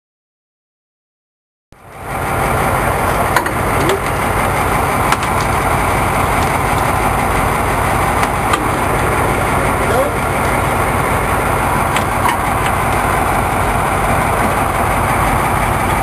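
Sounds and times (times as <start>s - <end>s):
boat engine running: 1.8s - 16.0s.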